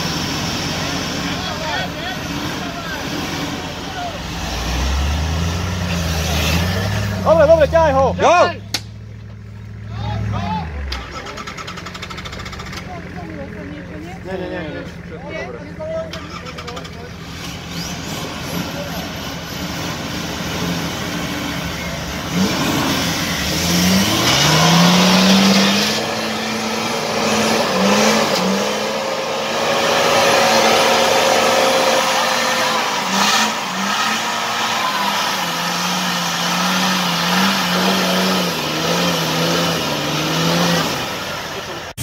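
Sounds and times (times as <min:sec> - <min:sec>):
engine revving hard: 0:00.0 - 0:08.5, 0:16.2 - 0:42.0.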